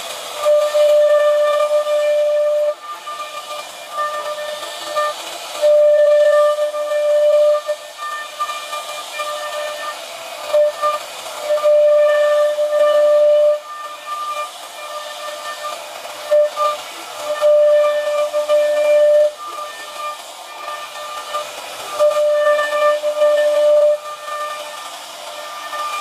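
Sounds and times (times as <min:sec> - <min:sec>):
hiss of wood cutting: 0:00.0 - 0:26.0
router spindle whining: 0:00.0 - 0:26.0.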